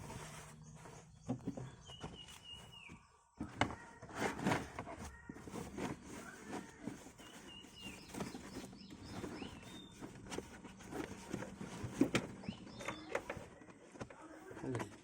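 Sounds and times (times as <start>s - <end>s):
handling knocks and rustling: 0.0s - 15.0s.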